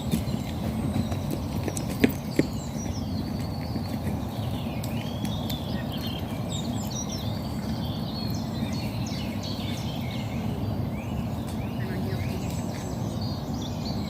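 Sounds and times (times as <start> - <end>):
small birds singing and chirping: 0.0 - 14.0.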